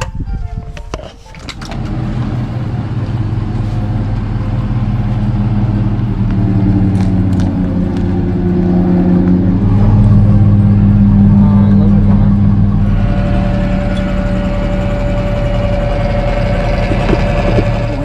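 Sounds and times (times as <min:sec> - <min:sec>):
pickup truck engine droning: 0:01.2 - 0:18.0.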